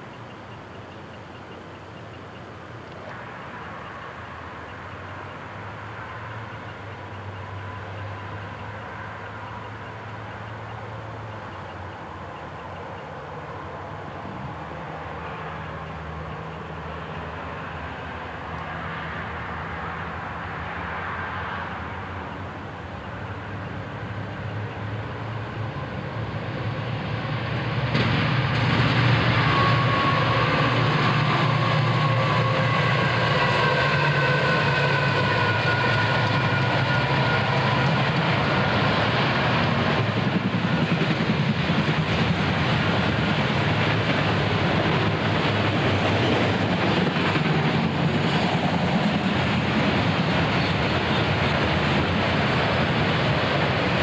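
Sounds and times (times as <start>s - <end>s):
freight train rumbling past: 3.0s - 54.0s.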